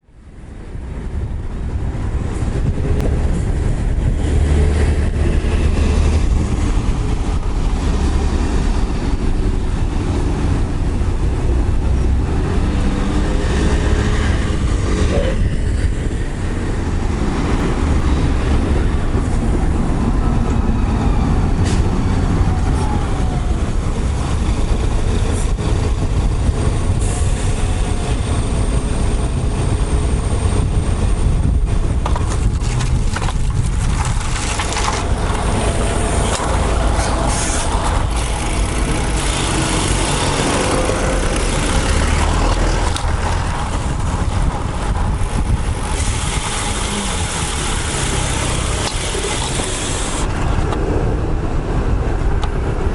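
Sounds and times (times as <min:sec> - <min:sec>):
bike road noise: 0:00.0 - 0:52.9
wind buffeting microphone: 0:00.2 - 0:52.9.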